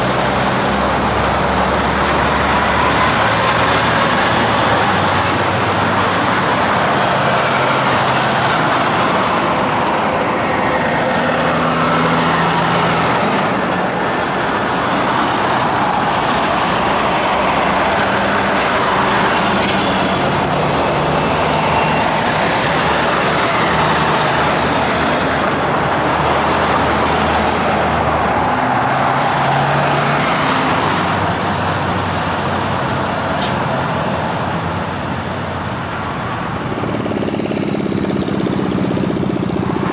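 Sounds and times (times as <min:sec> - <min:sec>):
truck diesel engines passing: 0:00.0 - 0:39.9.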